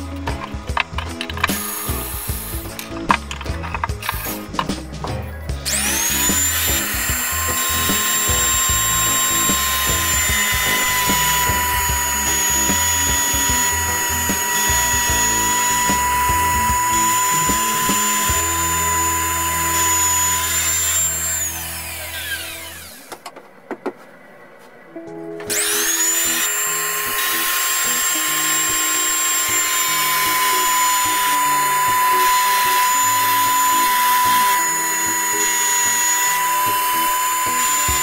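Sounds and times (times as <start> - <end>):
power tool motor whining: 0.0 - 4.8, 5.6 - 23.2, 25.5 - 38.0
background music: 0.0 - 23.1, 24.9 - 38.0.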